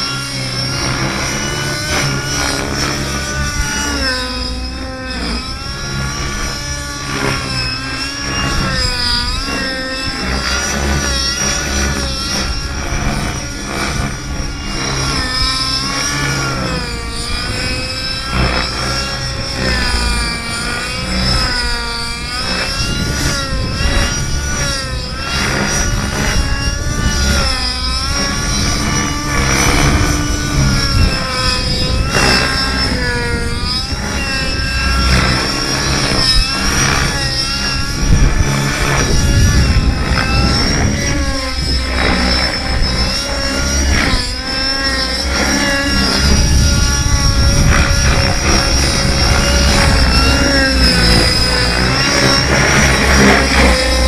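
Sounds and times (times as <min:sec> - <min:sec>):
high whine: 0:00.0 - 0:54.0
model helicopter engine and rotor: 0:00.0 - 0:54.0.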